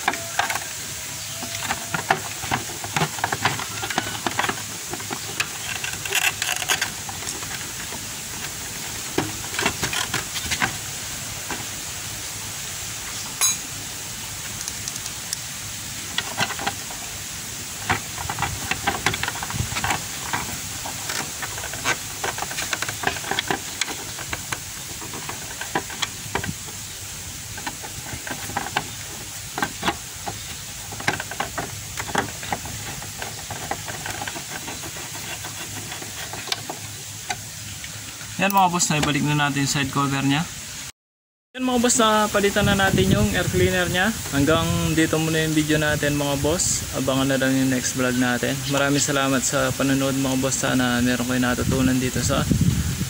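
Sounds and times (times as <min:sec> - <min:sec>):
steady hiss: 0:00.0 - 0:40.9, 0:41.6 - 0:53.0.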